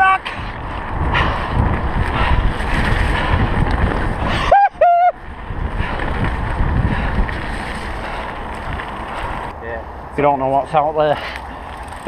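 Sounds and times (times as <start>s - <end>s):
bike tyres and frame rattling: 0.0s - 9.6s, 11.1s - 12.0s
wind buffeting microphone: 0.0s - 10.1s.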